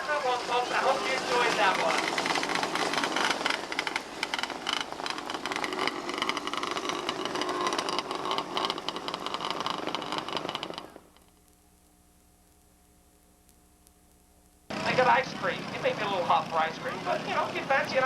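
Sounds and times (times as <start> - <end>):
small race car engines revving: 0.0 - 11.2, 14.7 - 18.0
faint hum: 0.0 - 18.0.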